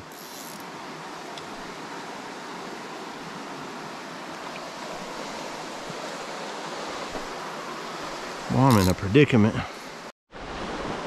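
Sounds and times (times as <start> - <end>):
creek running over rocks: 0.0 - 11.0.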